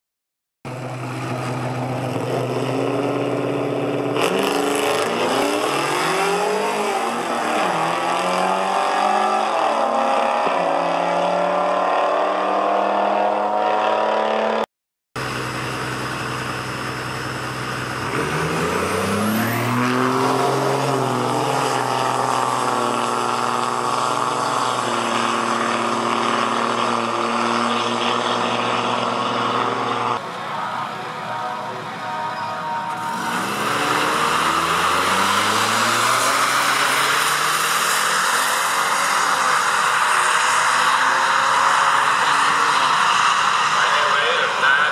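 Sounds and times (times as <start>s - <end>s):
car engines revving and accelerating: 0.7s - 44.9s.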